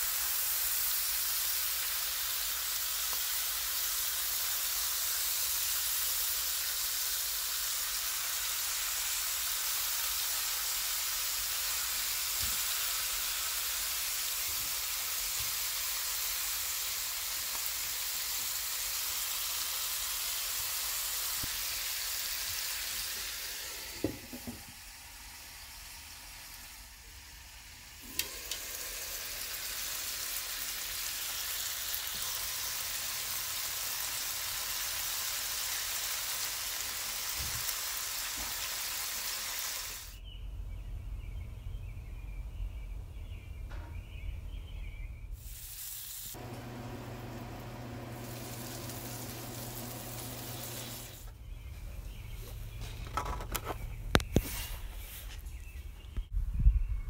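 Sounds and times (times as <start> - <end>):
chicken sizzling in a frying pan: 0.0 - 40.2, 45.4 - 51.3.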